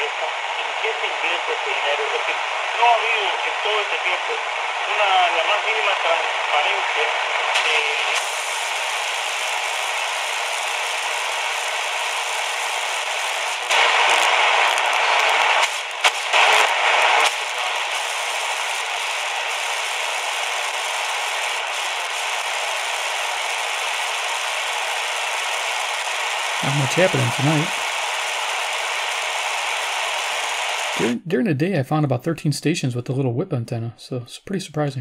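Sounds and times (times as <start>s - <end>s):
radio static hissing: 0.0s - 31.3s.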